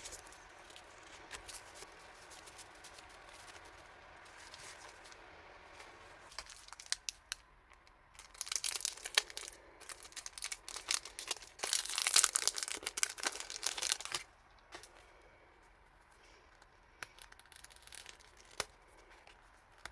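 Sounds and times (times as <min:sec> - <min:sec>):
packaging crinkling and rustling: 0:00.0 - 0:15.1, 0:16.1 - 0:19.9.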